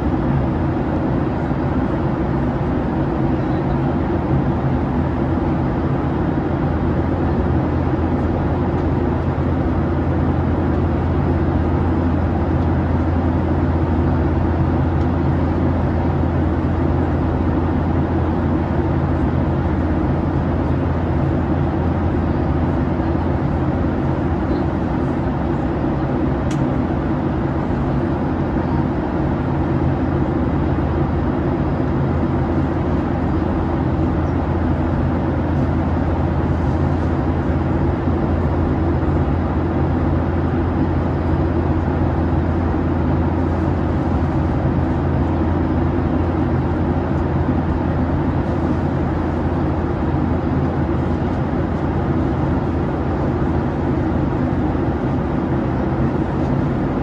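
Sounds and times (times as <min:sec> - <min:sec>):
deep jet engine drone: 0:00.0 - 0:57.0
rush of cabin air: 0:00.0 - 0:57.0.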